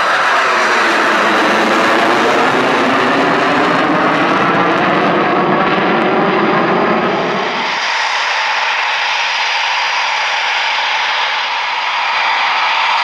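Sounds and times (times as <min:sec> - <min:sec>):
jet engine running loud: 0:00.0 - 0:13.0.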